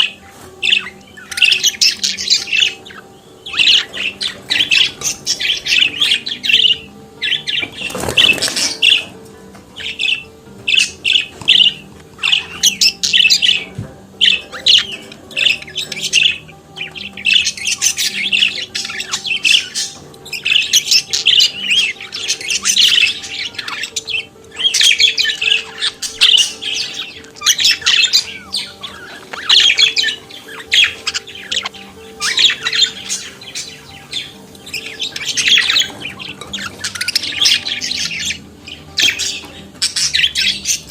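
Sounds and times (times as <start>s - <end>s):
budgerigar warbling and chattering: 0.0s - 40.9s.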